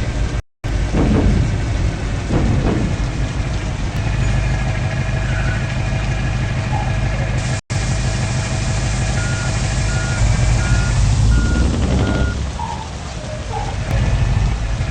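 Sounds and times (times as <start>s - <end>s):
truck engine running: 0.0s - 14.9s.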